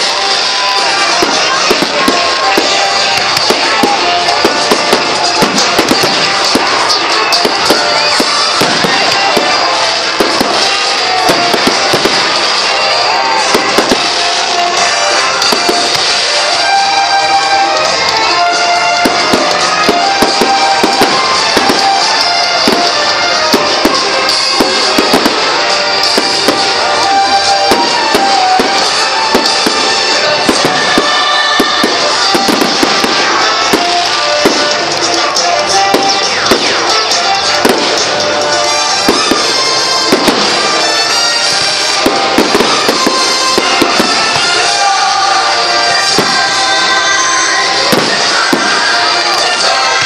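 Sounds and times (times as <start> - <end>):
fireworks bursting and crackling: 0.0 - 50.0
loud music: 0.0 - 50.0.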